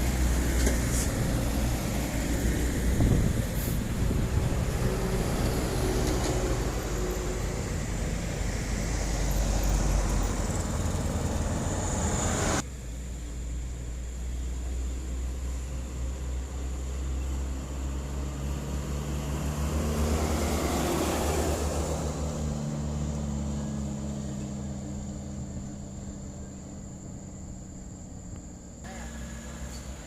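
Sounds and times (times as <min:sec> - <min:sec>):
heavy truck engine pulling uphill: 0:00.0 - 0:30.0.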